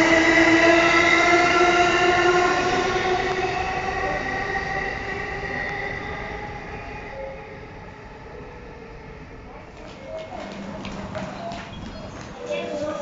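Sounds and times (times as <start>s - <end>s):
electric train whine: 0.0s - 13.0s
train rumble: 0.0s - 13.0s.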